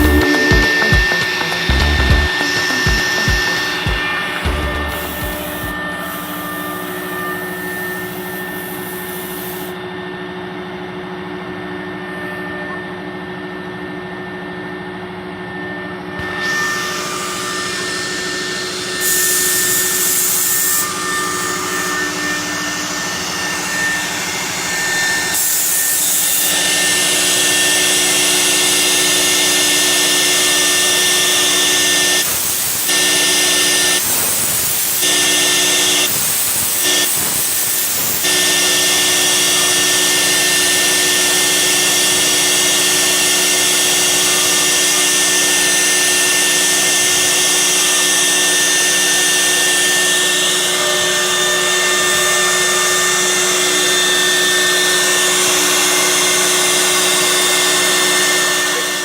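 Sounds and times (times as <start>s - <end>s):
router spindle whine: 0.0s - 10.4s, 13.8s - 34.1s, 35.0s - 36.1s, 36.7s - 59.0s.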